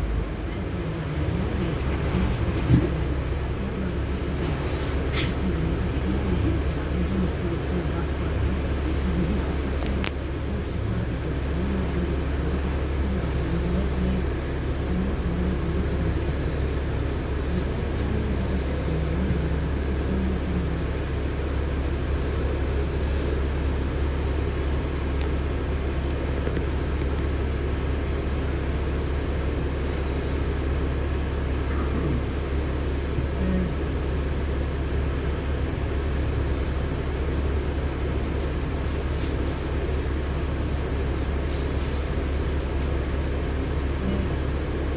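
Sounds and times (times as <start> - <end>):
bus engine rumble: 0.0 - 44.9.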